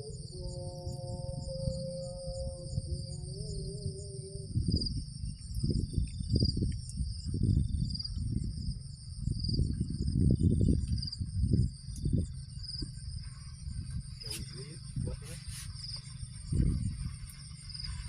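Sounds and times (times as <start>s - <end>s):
crickets trilling: 0.0s - 18.0s
low rumbling bumps: 2.7s - 18.0s.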